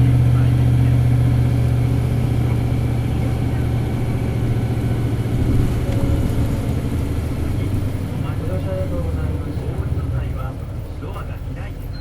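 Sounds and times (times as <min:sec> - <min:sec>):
bus diesel engine hum: 0:00.0 - 0:12.0.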